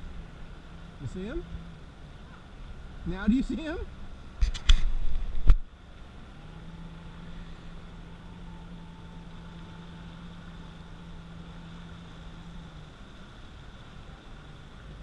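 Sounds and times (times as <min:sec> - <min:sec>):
faint water wash: 0:00.0 - 0:15.0
jet ski engine running: 0:00.0 - 0:15.0.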